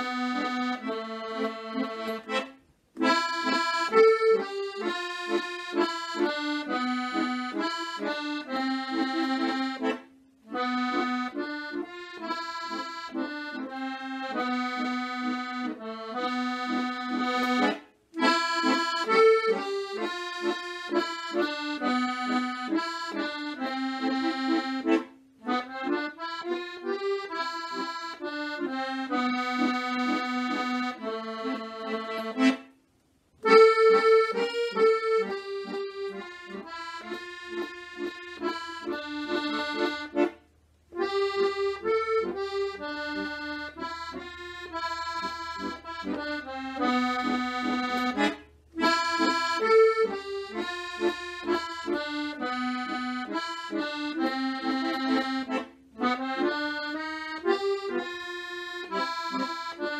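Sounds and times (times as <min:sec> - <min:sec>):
button accordion playing a tune: 0:00.0 - 0:32.8, 0:33.4 - 0:59.9.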